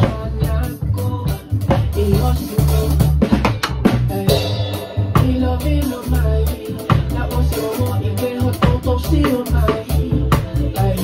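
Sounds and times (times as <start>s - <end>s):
drum kit played with sticks: 0.0s - 11.0s
recorded song with bass and melody: 0.0s - 11.0s.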